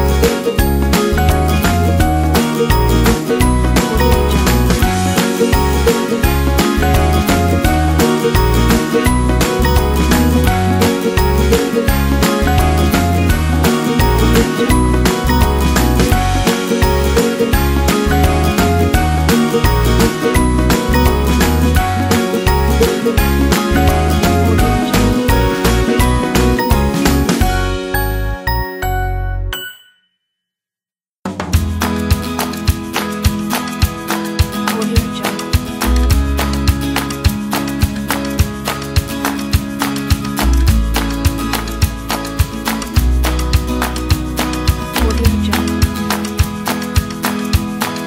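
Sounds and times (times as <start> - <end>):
background music with a beat: 0.0 - 29.7, 31.3 - 48.0.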